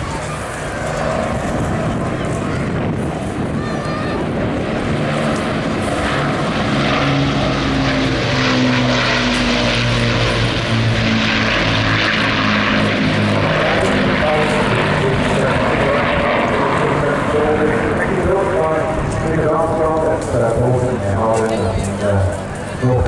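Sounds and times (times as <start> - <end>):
propeller aircraft engines in flight: 0.0 - 23.0.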